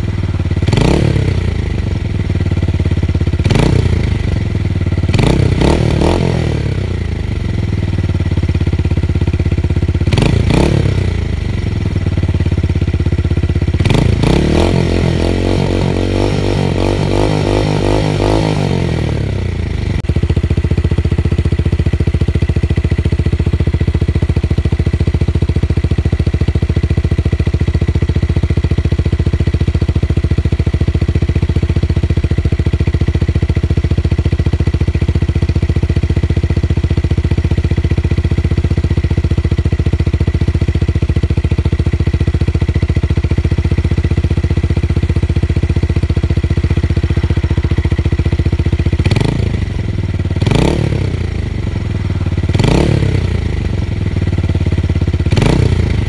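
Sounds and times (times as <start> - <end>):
motorcycle idling: 0.0 - 56.0
motorcycle revving: 0.0 - 56.0.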